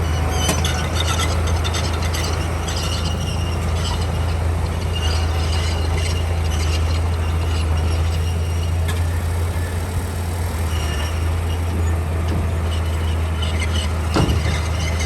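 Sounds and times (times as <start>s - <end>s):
bulldozer diesel engine humming: 0.0s - 15.0s.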